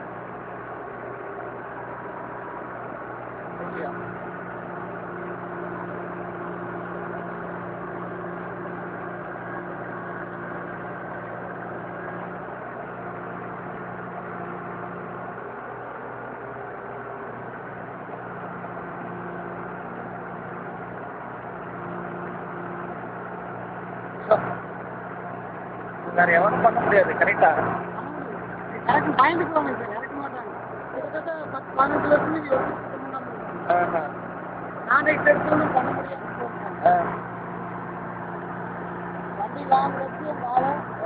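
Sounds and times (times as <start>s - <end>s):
backhoe loader diesel engine running: 0.0s - 41.0s.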